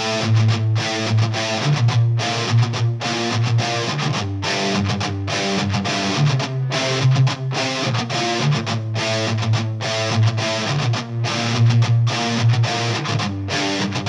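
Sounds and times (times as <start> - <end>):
song with electric guitar and beat: 0.0 - 14.0.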